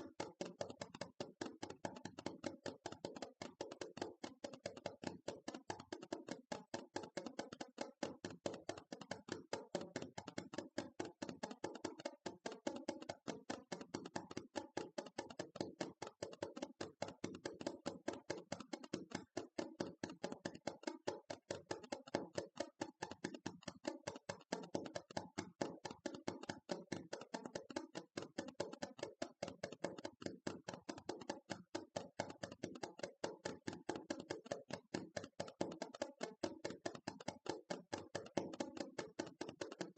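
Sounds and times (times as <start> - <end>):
rapid fingers tapping: 0.0 - 39.9.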